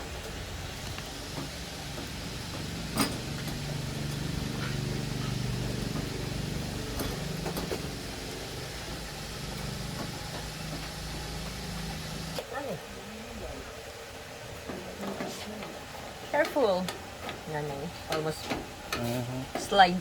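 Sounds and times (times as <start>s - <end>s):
steady motor hum: 0.0s - 20.0s.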